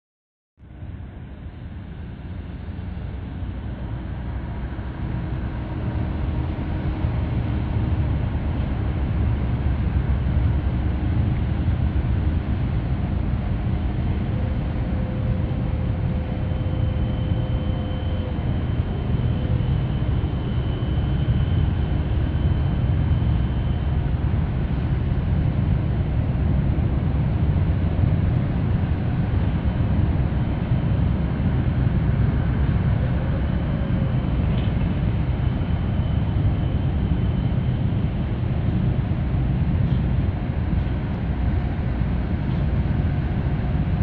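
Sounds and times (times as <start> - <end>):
faint high whine: 0.6 - 44.0
ship engines rumbling: 0.8 - 44.0.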